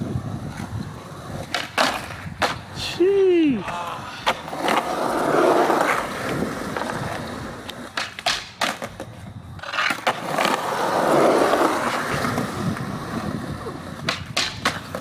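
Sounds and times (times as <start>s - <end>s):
skateboard wheels rolling: 0.0s - 15.0s
skateboard clacks and impacts: 0.3s - 2.8s, 3.6s - 15.0s.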